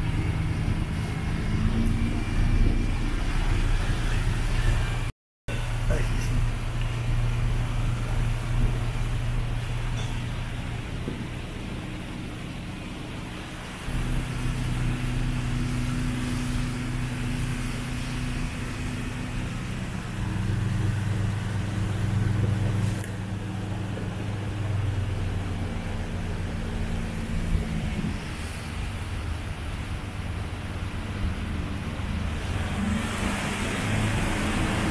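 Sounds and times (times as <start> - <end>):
boat motor running: 0.0 - 34.9.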